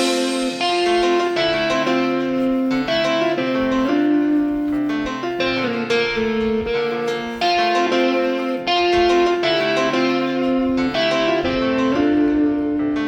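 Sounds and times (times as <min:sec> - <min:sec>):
piano instrumental music: 0:00.0 - 0:13.0.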